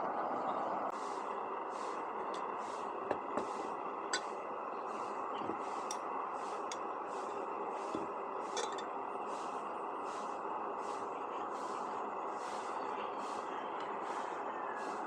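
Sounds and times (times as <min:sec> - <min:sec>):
petrol stove hissing: 0:00.9 - 0:15.0.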